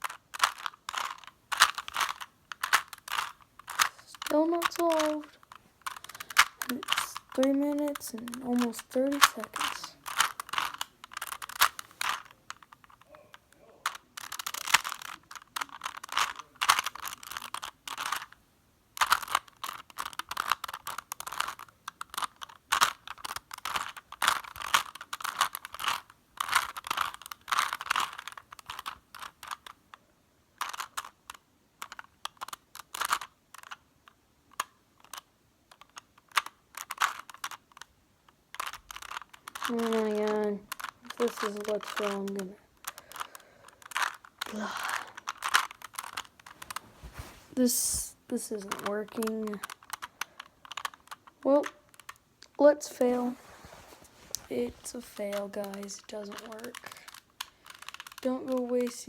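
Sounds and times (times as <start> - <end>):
puzzle cube layers clicking: 0.0 - 18.4, 19.0 - 29.8, 30.6 - 53.4, 54.2 - 59.0.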